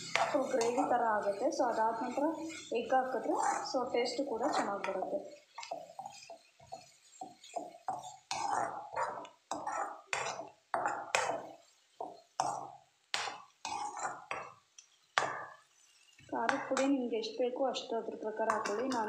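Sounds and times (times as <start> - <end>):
metal spoon scraping a pan: 0.0 - 17.1, 18.4 - 19.0.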